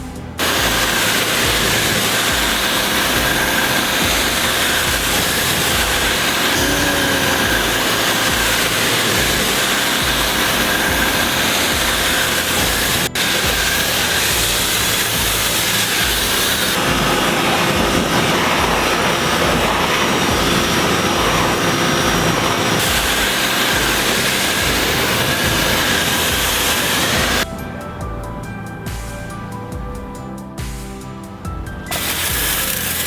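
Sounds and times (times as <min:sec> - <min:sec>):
pressure washer spraying: 0:00.0 - 0:27.5, 0:31.9 - 0:33.0
music: 0:00.0 - 0:33.0.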